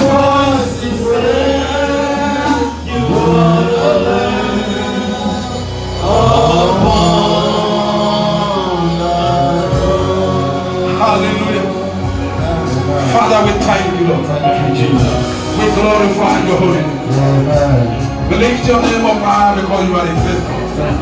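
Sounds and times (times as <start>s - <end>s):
group singing gospel song: 0.0s - 21.0s
instrumental backing: 0.0s - 21.0s.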